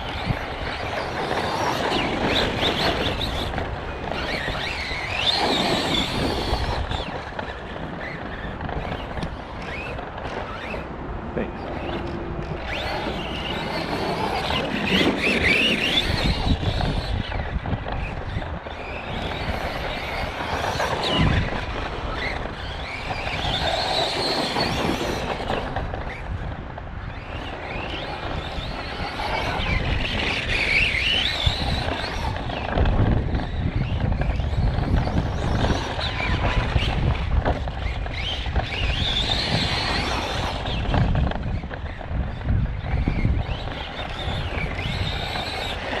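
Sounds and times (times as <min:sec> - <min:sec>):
rc truck motor whining: 0:00.0 - 0:46.0.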